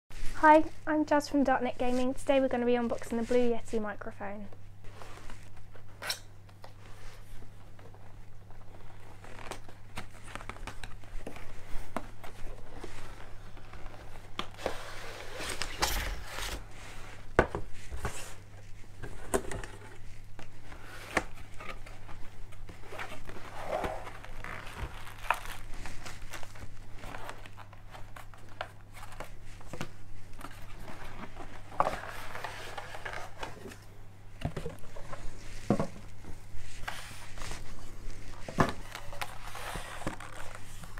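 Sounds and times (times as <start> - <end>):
packaging rustling and crinkling: 6.6 - 40.9.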